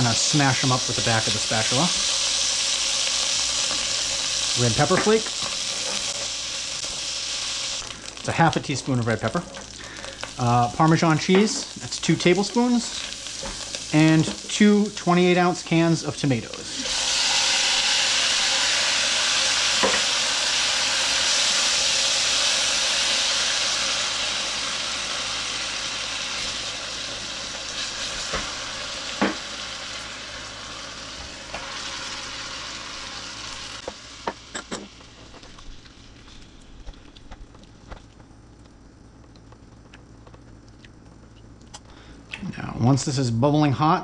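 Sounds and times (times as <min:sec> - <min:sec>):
tomatoes sizzling in oil: 0:00.0 - 0:38.0.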